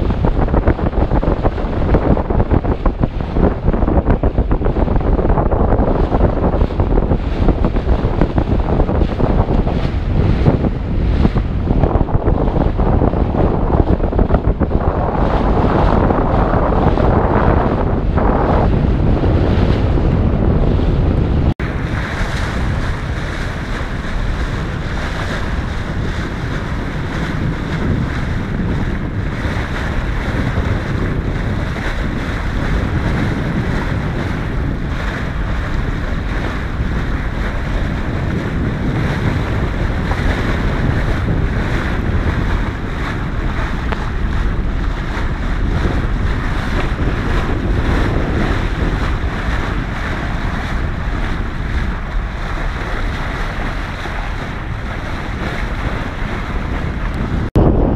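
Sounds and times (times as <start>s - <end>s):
bow wave rushing along hull: 0.0s - 57.9s
wind buffeting microphone: 0.0s - 57.9s.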